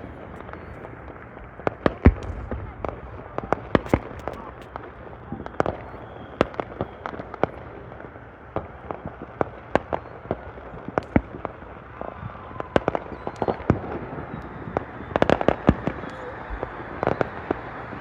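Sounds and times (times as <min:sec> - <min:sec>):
fireworks bangs and pops: 0:00.0 - 0:18.0.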